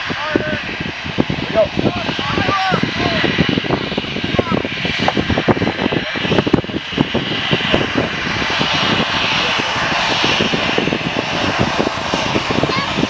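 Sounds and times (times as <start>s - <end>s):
jet engines hissing: 0.0s - 13.0s.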